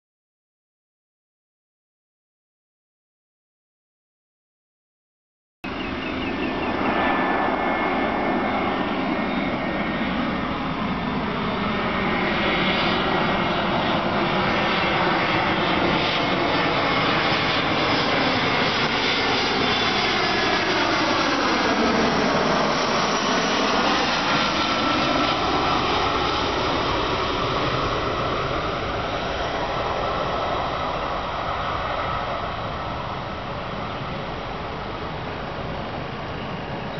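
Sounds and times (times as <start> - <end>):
jet engines rumble and whine: 5.6 - 36.9.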